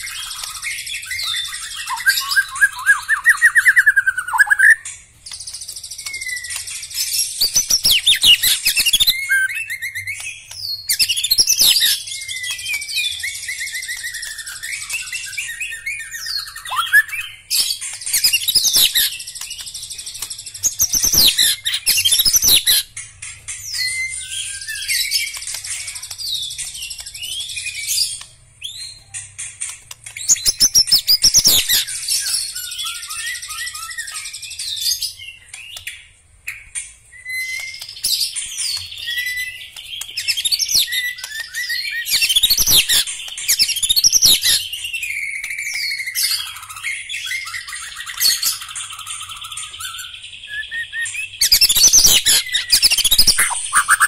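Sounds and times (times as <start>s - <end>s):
songbird singing whistles and trills: 0.0s - 23.0s, 23.6s - 29.2s, 30.1s - 54.0s.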